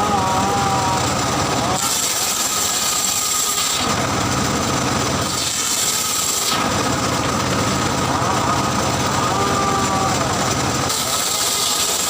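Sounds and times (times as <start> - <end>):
circular saw cutting wood: 0.0 - 12.0
circular saw running: 0.0 - 12.0.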